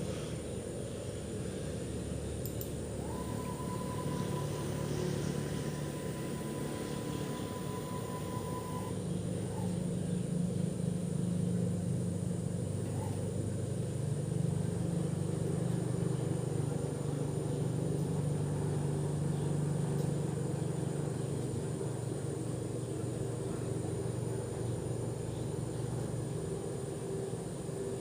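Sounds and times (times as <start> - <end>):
gantry drive motors humming: 0.0 - 28.0.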